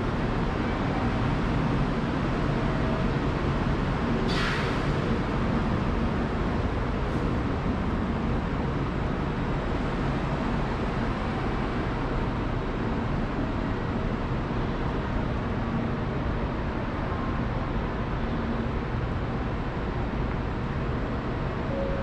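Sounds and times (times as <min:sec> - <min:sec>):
station platform rumble and hiss: 0:00.0 - 0:22.0.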